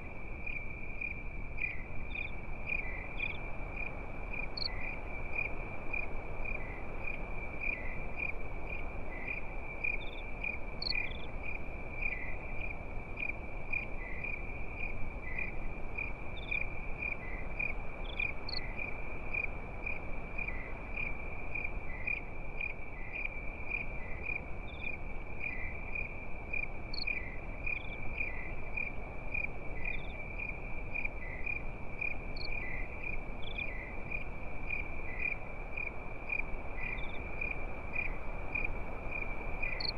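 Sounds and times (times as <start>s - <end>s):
crickets chirping: 0.0s - 39.9s
higher insect chirps: 0.4s - 39.9s.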